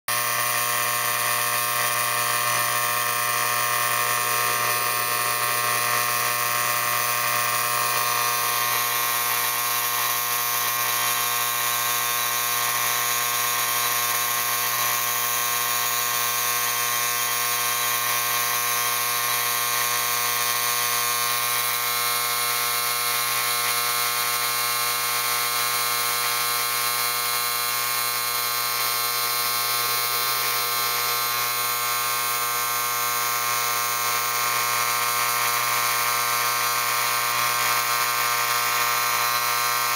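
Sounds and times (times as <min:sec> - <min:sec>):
vibrator mechanism buzzing: 0:00.1 - 0:39.9.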